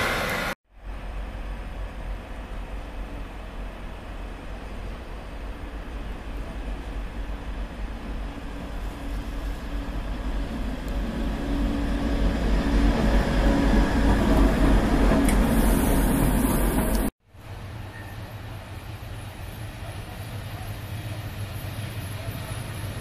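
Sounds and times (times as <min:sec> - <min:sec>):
locomotive passing by: 0:00.0 - 0:23.0.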